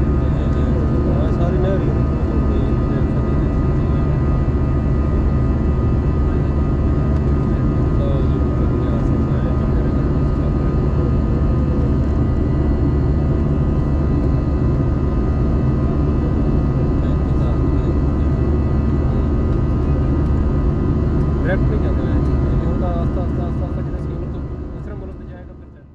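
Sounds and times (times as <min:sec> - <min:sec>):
jet engines rumbling: 0:00.0 - 0:25.9.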